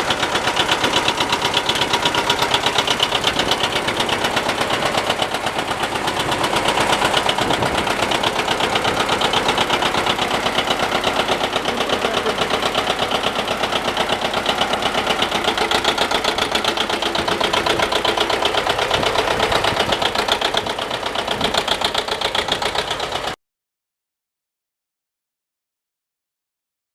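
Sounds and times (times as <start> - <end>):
tractor diesel engine running: 0.0 - 23.4.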